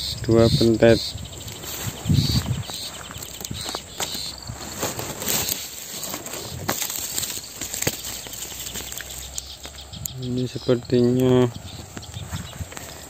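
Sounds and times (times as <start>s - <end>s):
faint insect chirring: 0.0s - 13.0s
rustling fronds and twigs: 0.4s - 13.0s.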